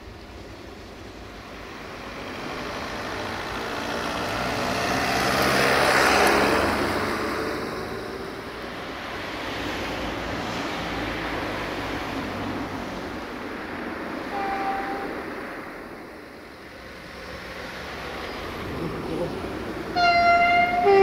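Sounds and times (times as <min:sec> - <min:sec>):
passing vehicle rushing: 0:01.5 - 0:21.0.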